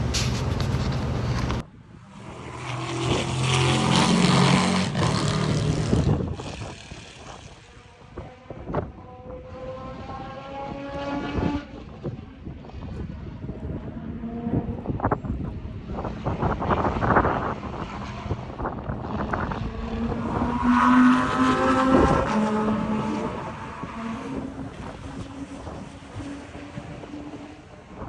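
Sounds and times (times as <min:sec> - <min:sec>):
racing engine accelerating: 0:02.0 - 0:28.0
racing engine passing at speed: 0:02.0 - 0:28.0.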